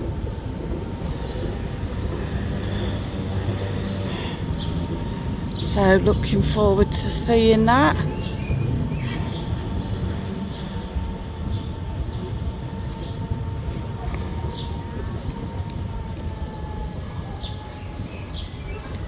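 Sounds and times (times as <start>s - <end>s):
electric motor whine: 0.0s - 19.0s
scooter rolling rumble: 0.0s - 19.0s.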